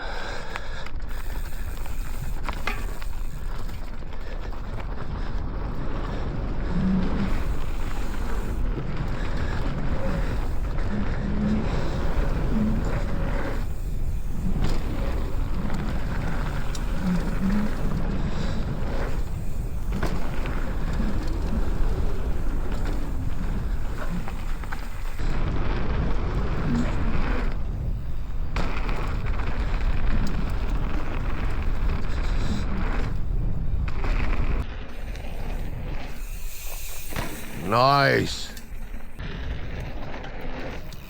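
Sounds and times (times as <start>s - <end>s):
tyres rolling on dirt trail: 0.0s - 41.0s.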